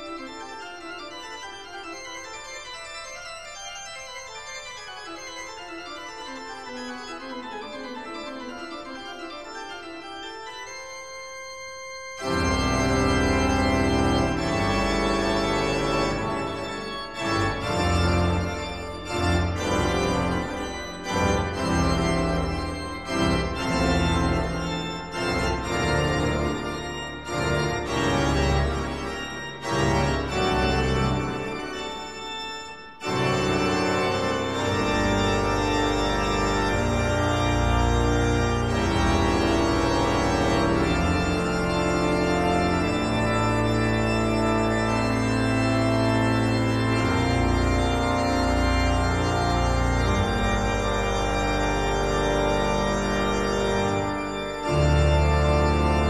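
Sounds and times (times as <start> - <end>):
organ-like keyboard chords: 0.0 - 56.0.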